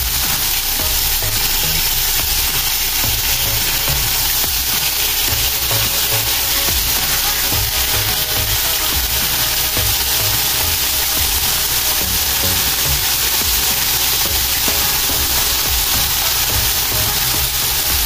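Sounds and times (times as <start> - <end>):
chicken sizzling in frying pan: 0.0 - 18.0
electronic music: 0.0 - 18.0.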